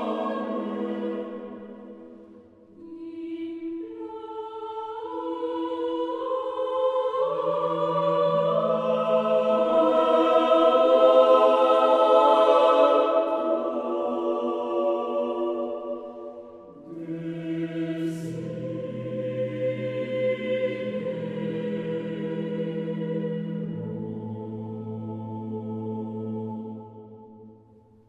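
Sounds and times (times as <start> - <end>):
choir singing sacred music: 0.0 - 28.0.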